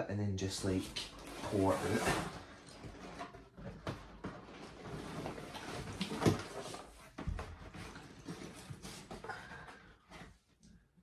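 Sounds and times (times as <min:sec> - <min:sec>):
cardboard box scraping and rustling: 0:00.6 - 0:09.4.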